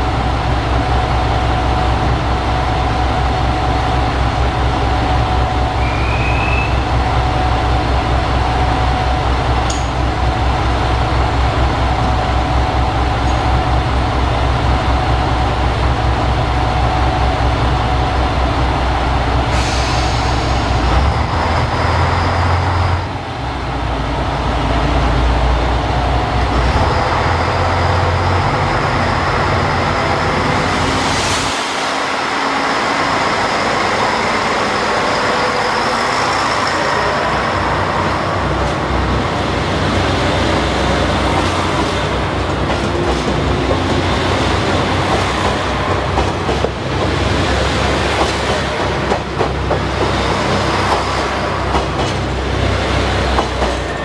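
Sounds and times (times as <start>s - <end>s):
train rolling noise: 0.0s - 54.0s.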